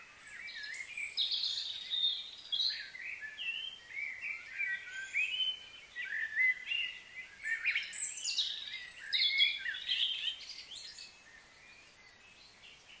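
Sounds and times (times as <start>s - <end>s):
faint outdoor background noise: 0.0s - 13.0s
songbirds singing and chirping: 0.0s - 13.0s.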